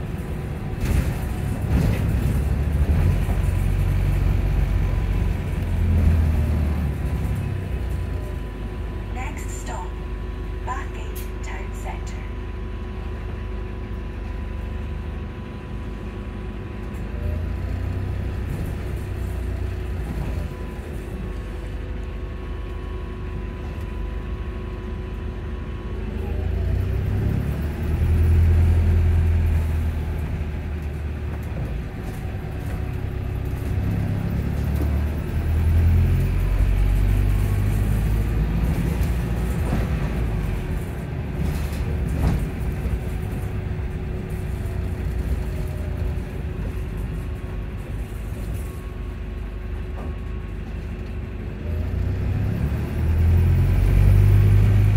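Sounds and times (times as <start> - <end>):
bus drivetrain rumble and hum: 0.0 - 54.9.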